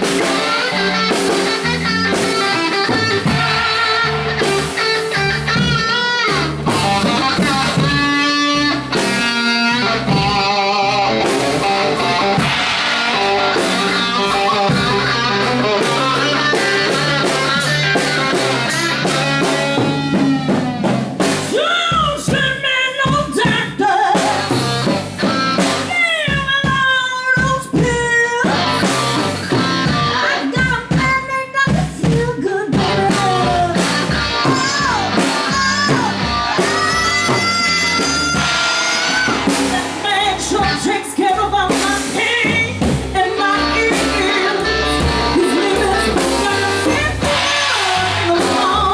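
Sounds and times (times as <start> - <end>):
live band playing: 0.0 - 48.9.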